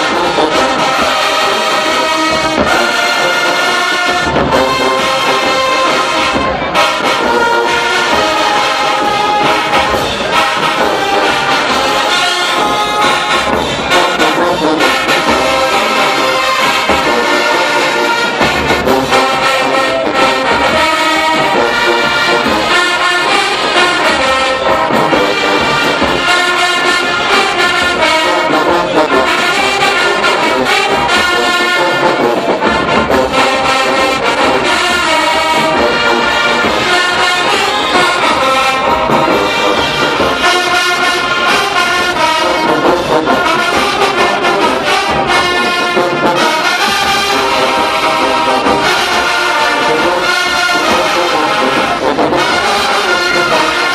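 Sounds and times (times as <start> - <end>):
marching band brass playing: 0.0 - 53.9.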